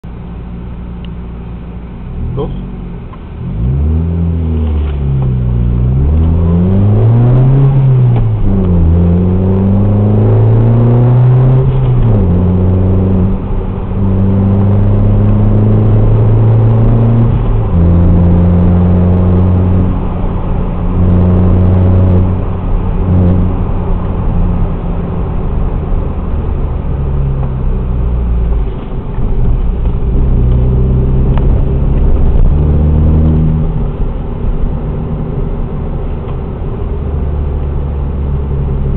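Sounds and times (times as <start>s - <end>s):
car engine revving: 2.0s - 38.9s.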